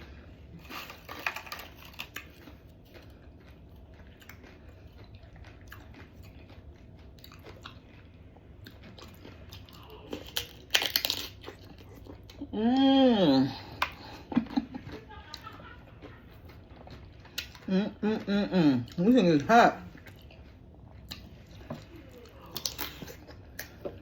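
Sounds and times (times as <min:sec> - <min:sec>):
person chewing crunchy food: 0:00.0 - 0:12.8, 0:13.4 - 0:24.0.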